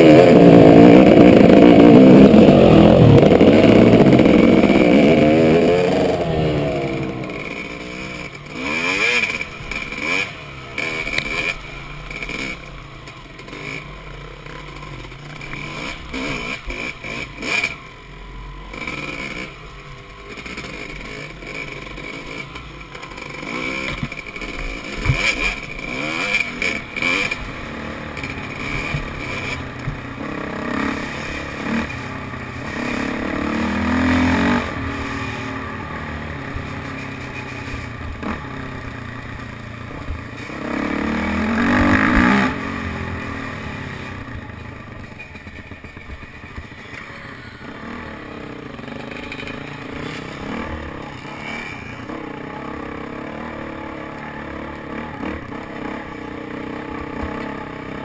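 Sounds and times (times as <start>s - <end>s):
dirt bike engines: 0.0s - 58.0s.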